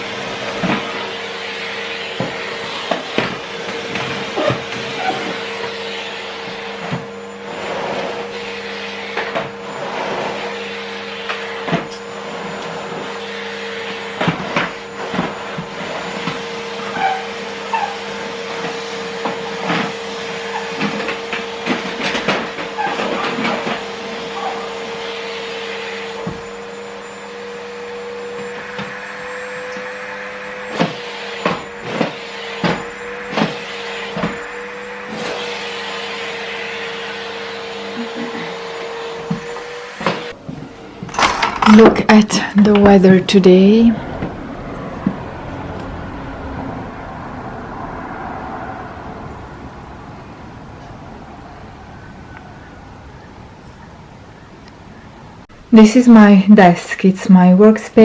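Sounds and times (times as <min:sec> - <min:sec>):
vacuum cleaner motor whine: 0:00.0 - 0:58.0.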